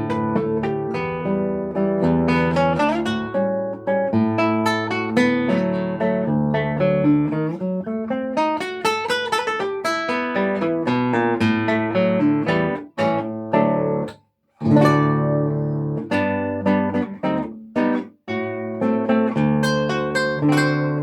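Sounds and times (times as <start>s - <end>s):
acoustic guitar fingerpicking: 0.0s - 21.0s.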